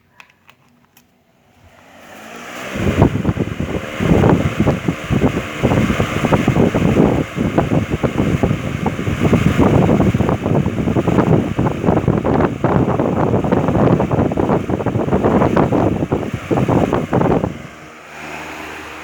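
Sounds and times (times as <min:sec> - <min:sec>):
electric fan running: 0:00.0 - 0:19.0
wind buffeting microphone: 0:01.6 - 0:19.0.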